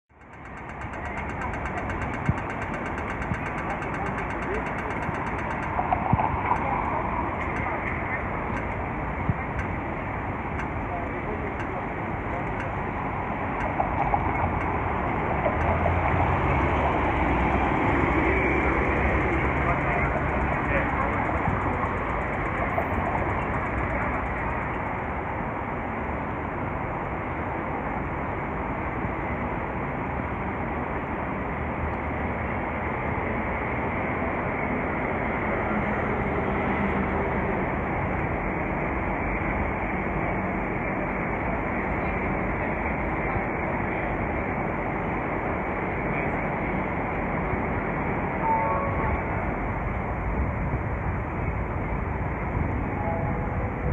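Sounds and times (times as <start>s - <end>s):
cars passing on busy road: 0.1s - 53.9s.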